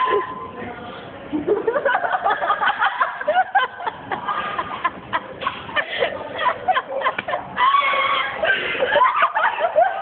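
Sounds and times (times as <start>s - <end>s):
people calling out and chattering: 0.0s - 10.0s.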